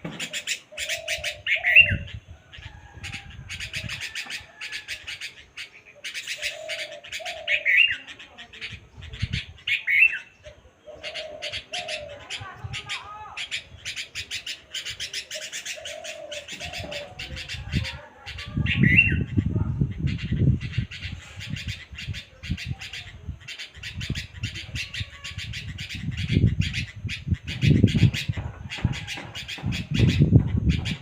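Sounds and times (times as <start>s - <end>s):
bird chirping: 0.0s - 31.0s.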